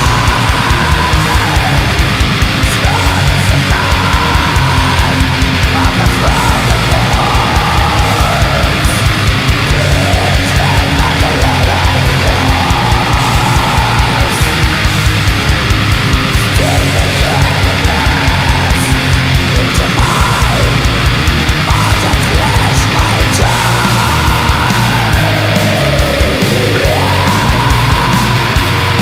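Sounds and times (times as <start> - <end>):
distorted electric guitars: 0.0 - 29.0
fast drumming: 0.0 - 29.0.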